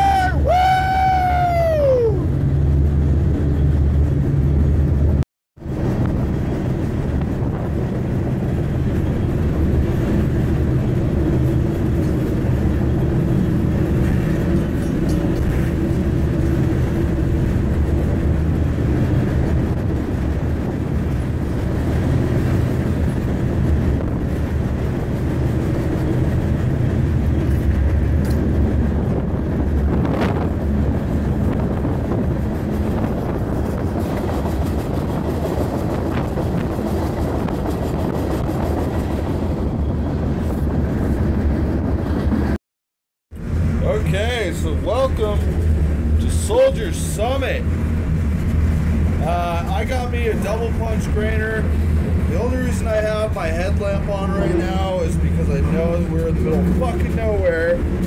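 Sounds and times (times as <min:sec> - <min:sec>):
train wheels rumbling on rail: 0:00.0 - 0:42.6, 0:43.3 - 0:58.0.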